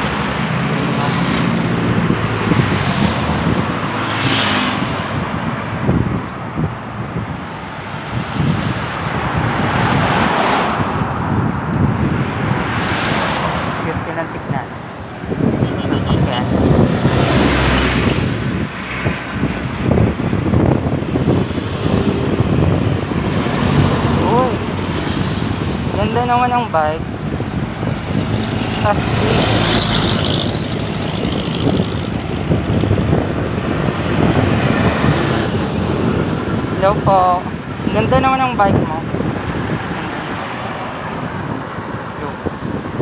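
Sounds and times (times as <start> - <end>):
traffic noise: 0.0 - 43.0
wind rumbling on microphone: 0.0 - 43.0.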